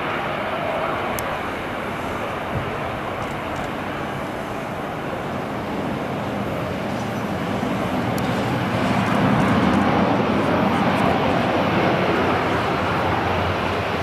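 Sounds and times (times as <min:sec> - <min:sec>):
turboprop engines drone: 0:00.0 - 0:14.0.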